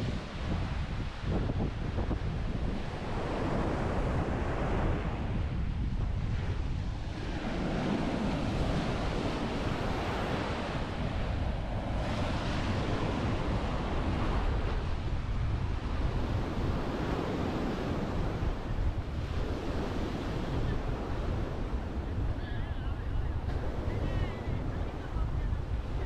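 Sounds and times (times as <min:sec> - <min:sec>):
waves washing onto beach: 0:00.0 - 0:26.0
wind buffeting microphone: 0:00.0 - 0:26.0.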